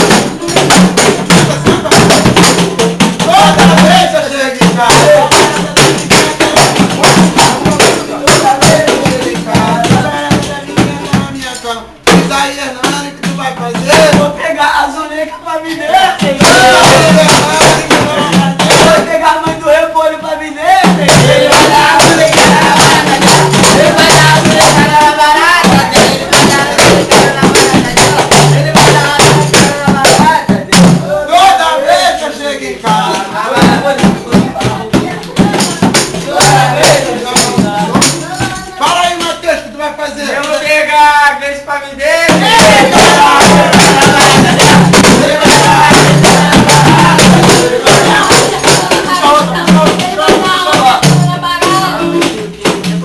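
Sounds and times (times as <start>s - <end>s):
hand percussion beat: 0.0s - 41.4s, 42.1s - 53.0s
people singing: 0.0s - 53.0s.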